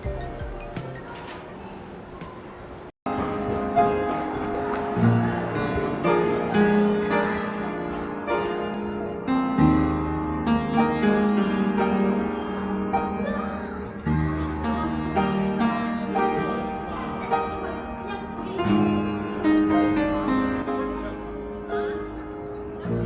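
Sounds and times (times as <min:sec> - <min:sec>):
calm piano-like keyboard chords: 0:03.1 - 0:23.0.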